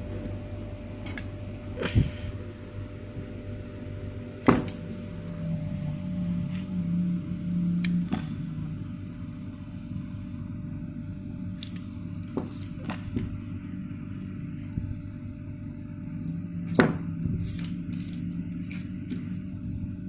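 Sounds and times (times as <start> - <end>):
microwave transformer humming: 0.0 - 20.0.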